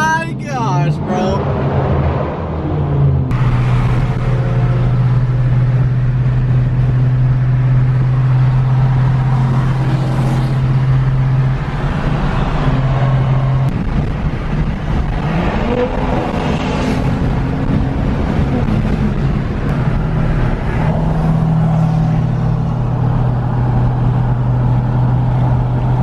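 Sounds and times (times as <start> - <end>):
car engine droning and accelerating: 0.0 - 26.0.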